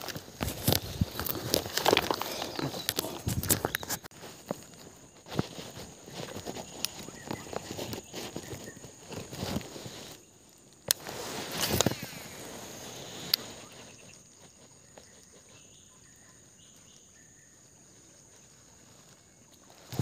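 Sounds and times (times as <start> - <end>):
rustling: 0.0 - 20.0
high insect drone: 0.1 - 20.0.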